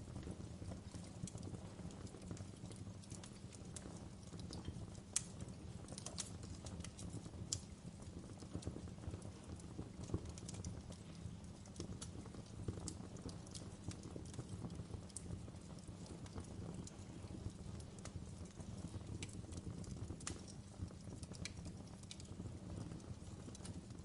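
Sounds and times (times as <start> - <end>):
low rumble of flames: 0.0 - 24.0
wood fire popping and snapping: 0.0 - 24.0.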